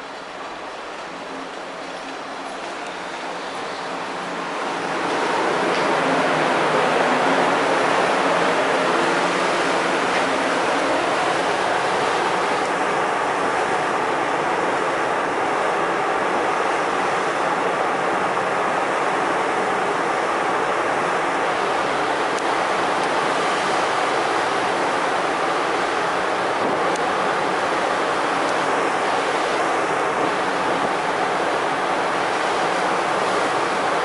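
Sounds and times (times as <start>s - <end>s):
wind and sea water rushing: 0.0s - 34.0s.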